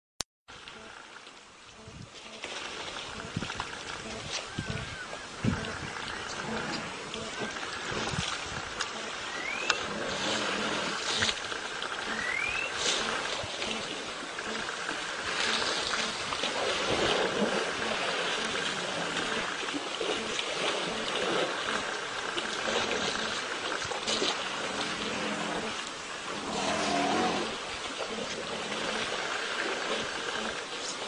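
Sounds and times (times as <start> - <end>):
water splashing and sloshing: 0.5 - 31.0.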